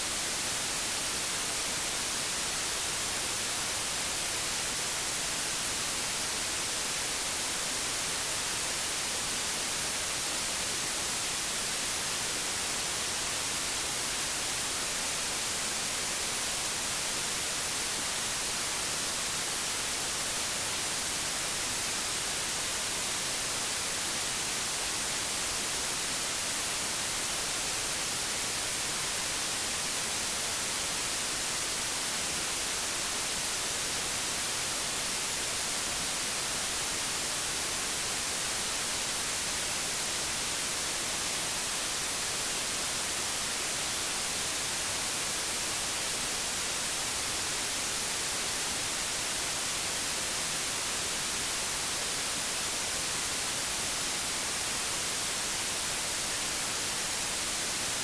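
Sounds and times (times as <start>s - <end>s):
television static hiss: 0.0s - 58.0s.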